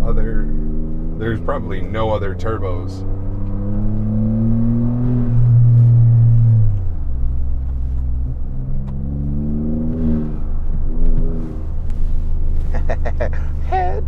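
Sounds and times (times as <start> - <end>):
truck engine accelerating: 0.0 - 14.0.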